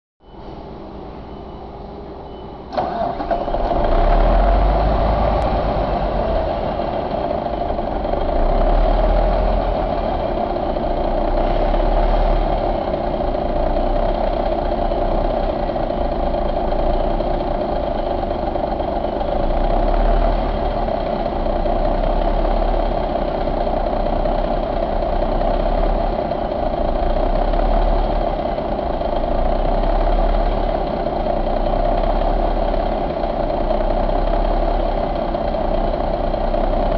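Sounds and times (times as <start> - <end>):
diesel engine starting and idling: 0.4 - 36.9.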